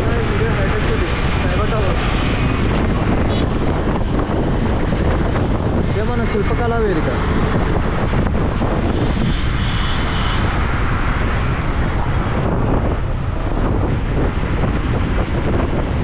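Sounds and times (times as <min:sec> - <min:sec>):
motorcycle road noise: 0:00.0 - 0:16.0
wind buffeting microphone: 0:00.0 - 0:16.0.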